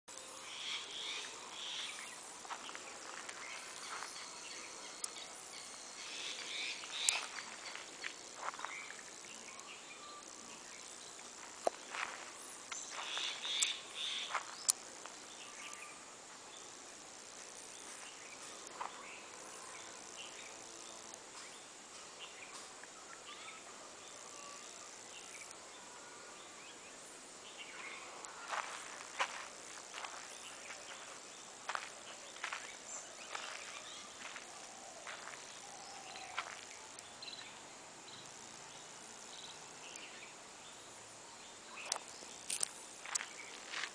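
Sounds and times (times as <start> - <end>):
insects chirring: 0.1 - 43.9.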